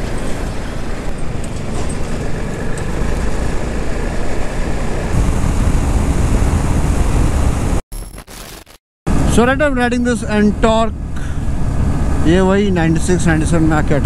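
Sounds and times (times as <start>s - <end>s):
wind and road noise: 0.0s - 7.8s, 9.1s - 14.0s.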